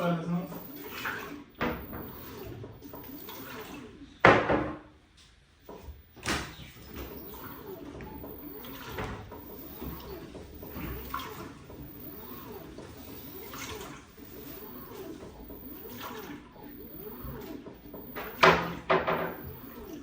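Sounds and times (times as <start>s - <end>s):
water and towels sloshing: 0.0s - 3.8s, 6.2s - 20.0s
washing machine swish: 0.0s - 4.5s, 5.6s - 20.0s
washing machine humming: 0.0s - 20.0s.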